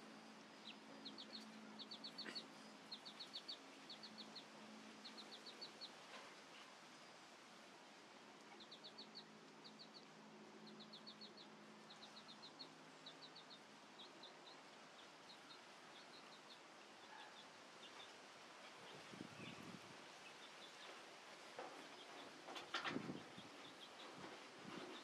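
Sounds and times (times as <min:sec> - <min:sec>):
faint bird chirping: 0:00.0 - 0:07.3, 0:08.3 - 0:25.0.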